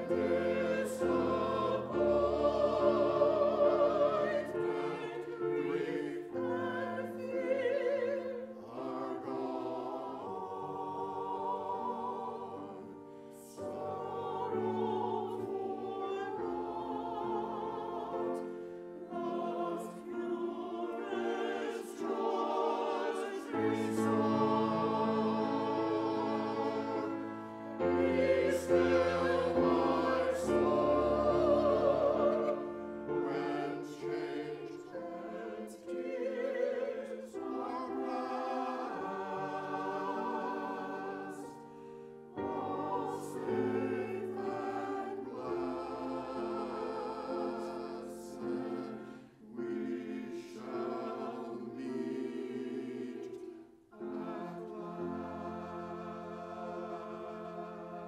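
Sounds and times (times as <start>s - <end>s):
choir singing: 0.0s - 58.0s
grand piano accompaniment: 0.0s - 58.0s.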